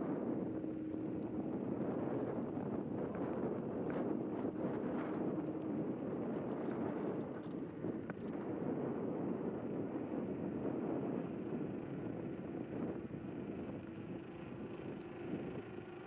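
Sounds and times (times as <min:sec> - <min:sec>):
electric scooter rolling rumble: 0:00.0 - 0:16.0
wind rushing over microphone: 0:00.0 - 0:16.0.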